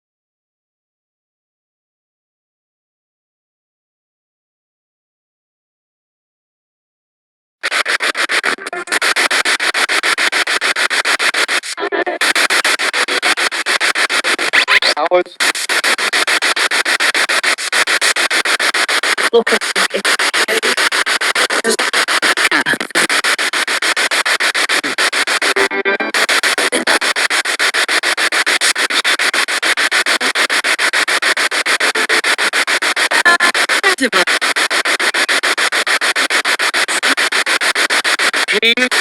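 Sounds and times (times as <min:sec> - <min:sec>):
pulsing radio static: 0:07.6 - 0:39.0
snatches of broadcast sound: 0:07.6 - 0:39.0.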